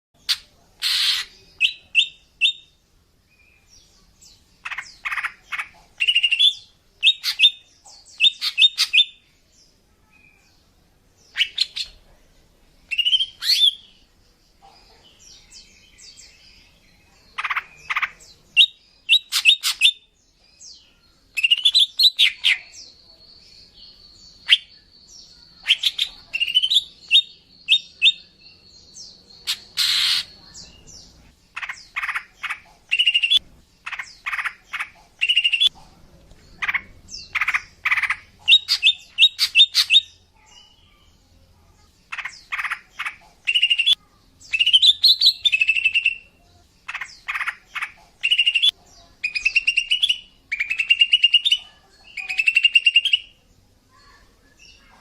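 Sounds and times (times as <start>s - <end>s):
bird chirping calls: 0.2s - 55.0s.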